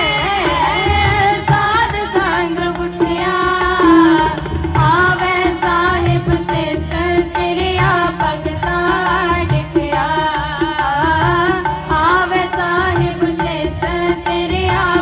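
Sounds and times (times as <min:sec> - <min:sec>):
tabla drums beat: 0:00.0 - 0:15.0
women singing together: 0:00.0 - 0:15.0.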